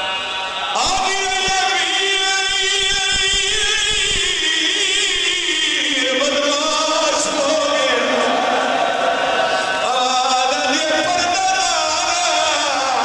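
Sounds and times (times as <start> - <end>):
man chanting through amplifier: 0.0 - 8.7, 9.4 - 13.0.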